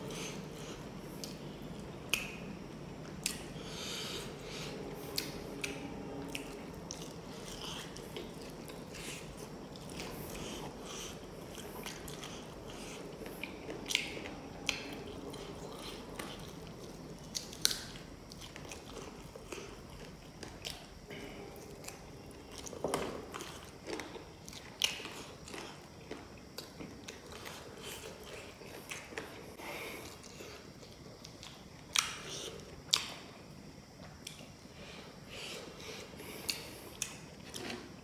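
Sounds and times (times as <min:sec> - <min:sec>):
person chewing food: 0:00.0 - 0:38.0.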